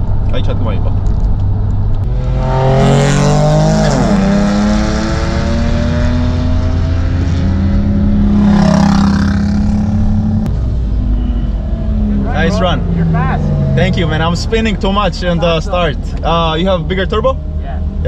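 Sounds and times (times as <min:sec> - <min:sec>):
car engine revving in cabin: 0:02.0 - 0:18.0.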